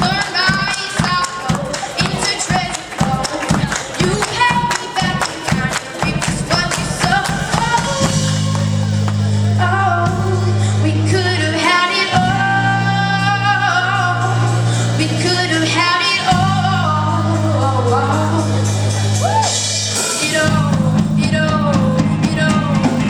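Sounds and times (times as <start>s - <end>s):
band music: 0.0s - 23.0s.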